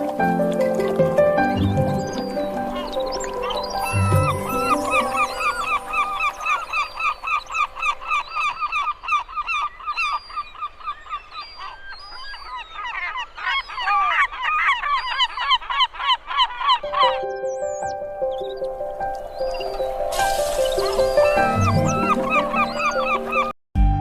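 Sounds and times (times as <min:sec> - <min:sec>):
gulls calling: 0:00.0 - 0:23.6.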